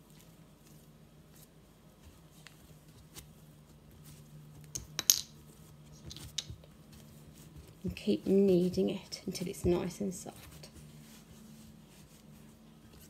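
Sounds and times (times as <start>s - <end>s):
play dough squishing and patting: 0.0s - 13.0s.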